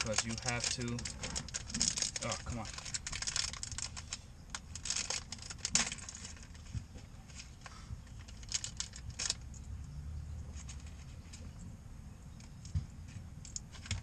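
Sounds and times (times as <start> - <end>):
clicks and rattles of parts handled: 0.0 - 9.7, 12.4 - 14.0
low steady hum: 0.0 - 14.0.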